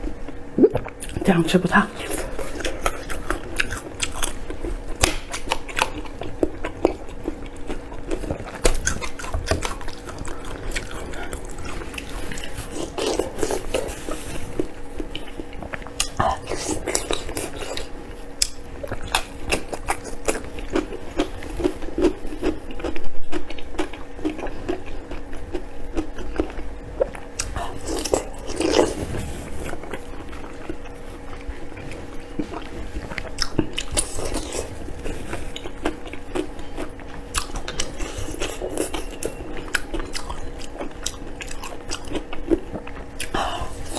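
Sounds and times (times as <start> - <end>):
person chewing food: 1.9 - 43.9.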